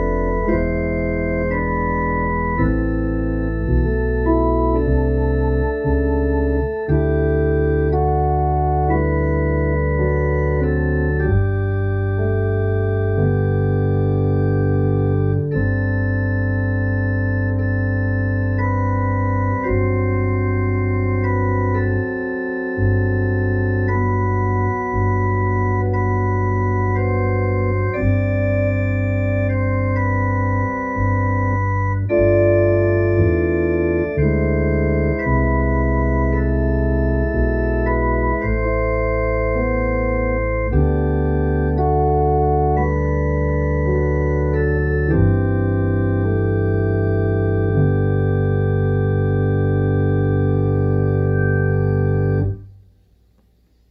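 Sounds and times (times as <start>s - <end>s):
digital organ chords: 0.0s - 52.7s.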